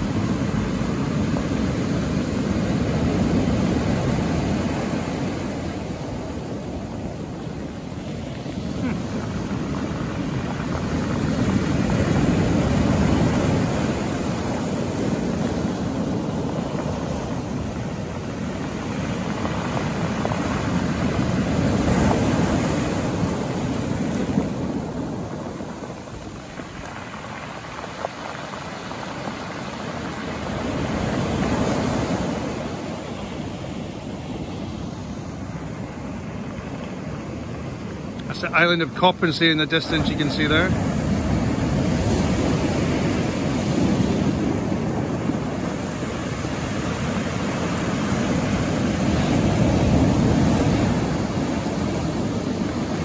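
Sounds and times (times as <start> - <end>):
waves crashing on pebble beach: 0.0 - 53.0.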